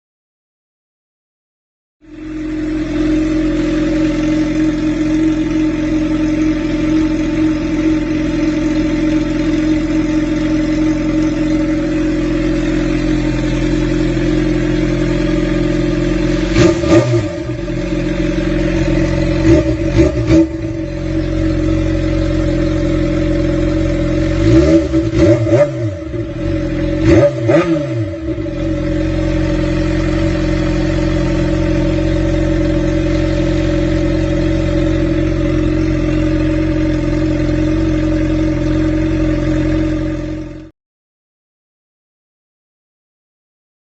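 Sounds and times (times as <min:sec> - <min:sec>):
motorcycle engine idling: 0:02.0 - 0:40.7
motorcycle throttle blips: 0:02.2 - 0:40.2.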